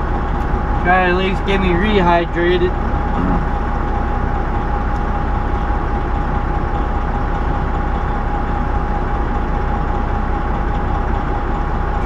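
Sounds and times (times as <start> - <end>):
diesel engine idling: 0.0 - 12.0
steady engine whine: 0.0 - 12.0.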